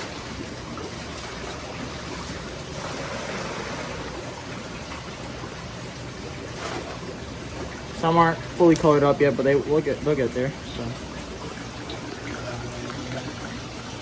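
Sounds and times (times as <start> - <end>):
water rushing in aquarium: 0.0 - 14.0.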